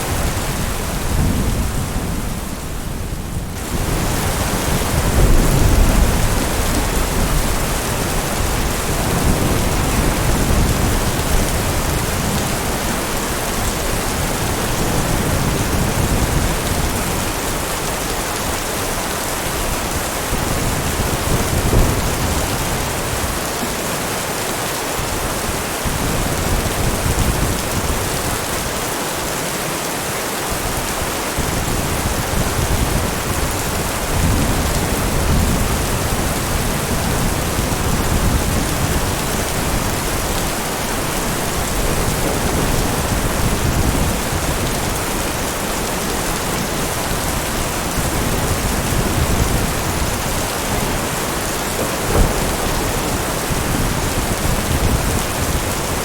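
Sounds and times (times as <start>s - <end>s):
thunder rumbling: 0.0s - 18.6s, 19.2s - 24.0s, 31.4s - 56.0s
heavy rain falling: 0.0s - 56.0s.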